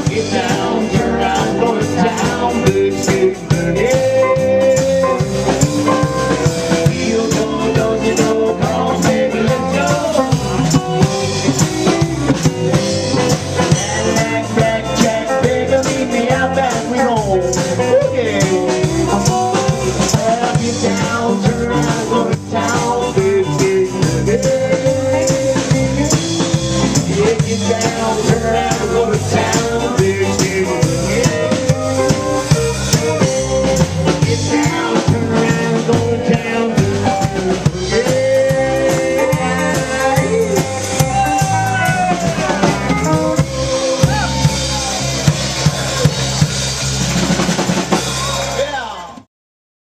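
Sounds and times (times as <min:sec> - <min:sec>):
band playing a song: 0:00.0 - 0:49.3
drum kit beat: 0:00.0 - 0:49.3.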